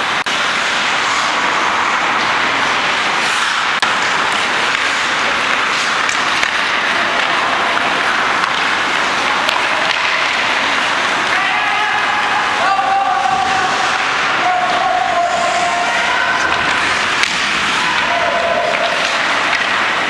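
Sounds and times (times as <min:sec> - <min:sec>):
skate blades scraping ice: 0:00.0 - 0:20.0.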